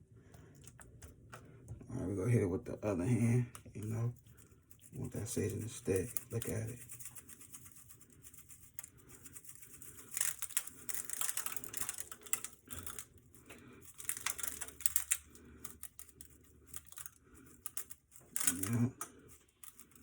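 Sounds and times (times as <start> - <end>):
hands rubbing poultry skin: 3.6 - 20.0.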